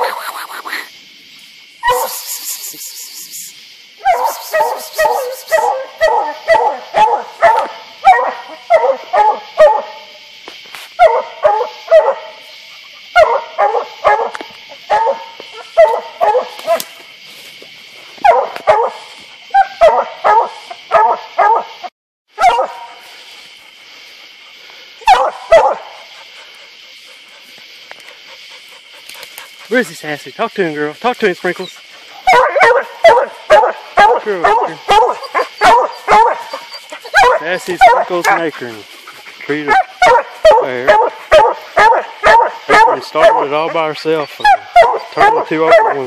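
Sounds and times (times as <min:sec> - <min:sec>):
dogs barking: 0:01.8 - 0:02.2, 0:04.0 - 0:10.1, 0:11.0 - 0:17.0, 0:18.2 - 0:30.2, 0:31.4 - 0:46.0.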